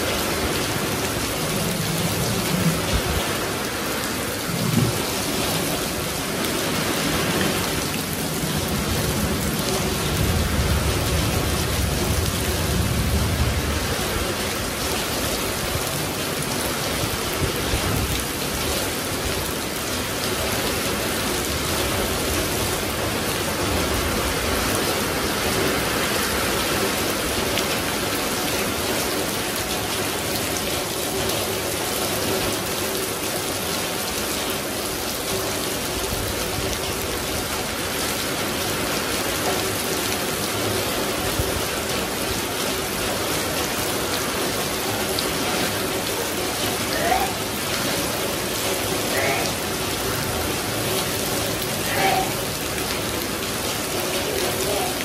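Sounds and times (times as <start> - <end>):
heavy rain pouring onto concrete: 0.0 - 55.0.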